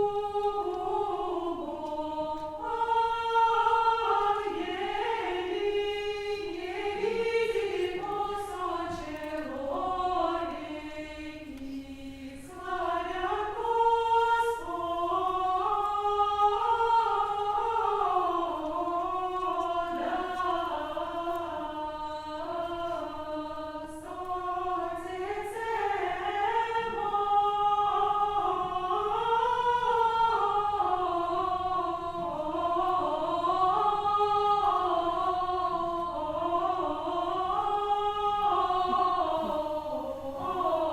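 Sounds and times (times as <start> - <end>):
choir singing unaccompanied: 0.0 - 40.9.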